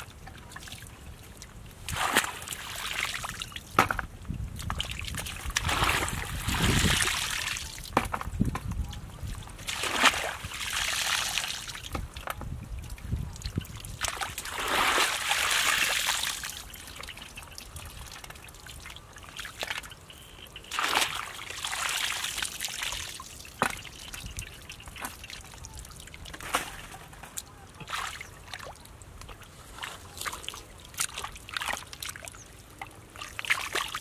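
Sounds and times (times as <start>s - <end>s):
muddy water trickling and sloshing: 0.0s - 34.0s.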